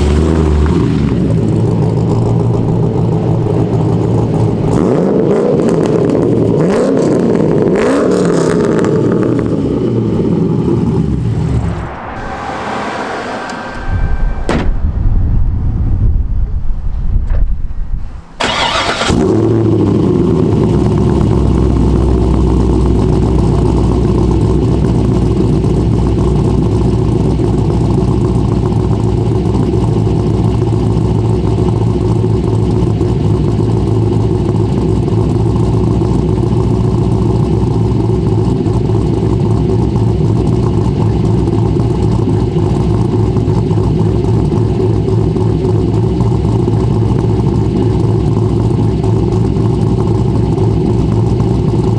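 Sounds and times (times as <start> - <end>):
car engine running loud: 0.0 - 51.9.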